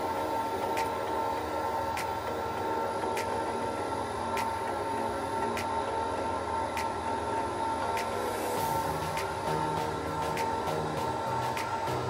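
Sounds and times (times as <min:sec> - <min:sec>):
centrifuge motor whine: 0:00.0 - 0:12.0.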